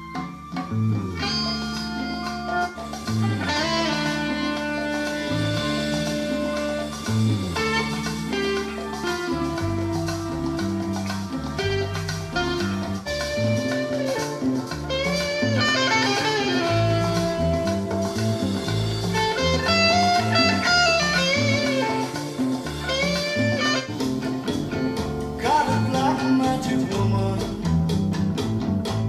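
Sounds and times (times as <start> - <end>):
guitar music with bass line: 0.0 - 29.0.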